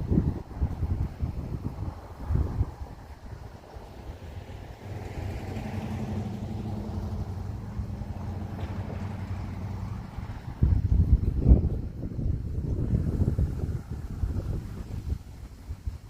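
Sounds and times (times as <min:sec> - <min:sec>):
low outdoor rumbling: 0:00.0 - 0:16.0
vehicle engine humming: 0:00.0 - 0:16.0.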